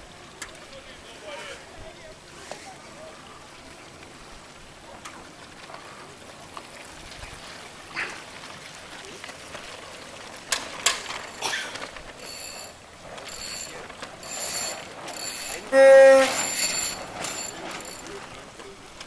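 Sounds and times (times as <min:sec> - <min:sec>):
water lapping around boat hulls: 0:00.0 - 0:19.0.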